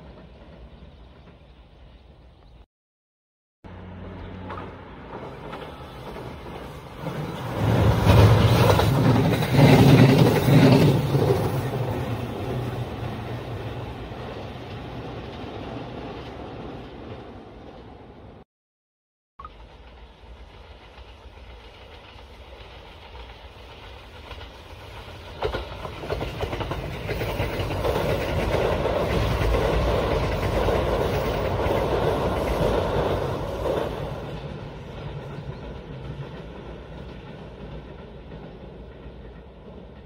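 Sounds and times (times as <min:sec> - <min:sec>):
train running on rails: 0:00.0 - 0:02.5, 0:03.7 - 0:18.4, 0:19.5 - 0:40.0.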